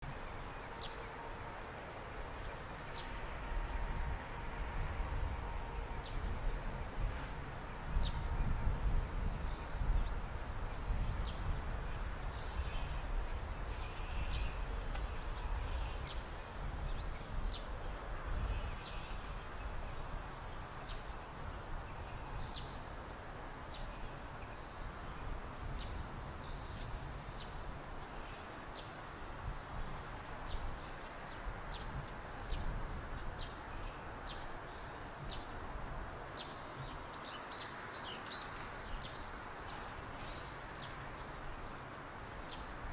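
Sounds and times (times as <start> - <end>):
low outdoor rumble: 0.0 - 37.2.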